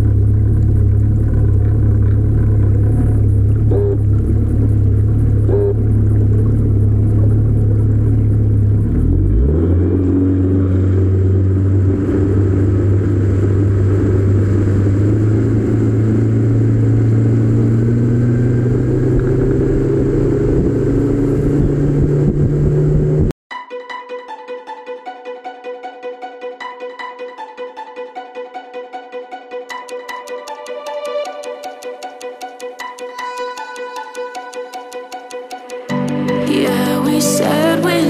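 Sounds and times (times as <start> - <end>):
boat engine running: 0.0 - 23.4, 28.5 - 38.0.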